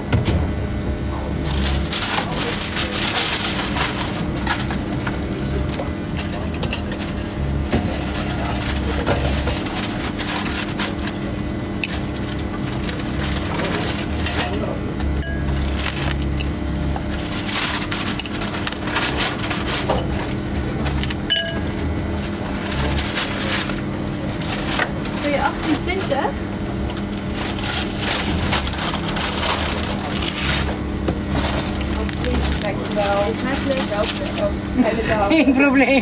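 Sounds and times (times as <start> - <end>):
steady machine hum: 0.0 - 36.0
food handling clicks and rustles: 1.4 - 35.5.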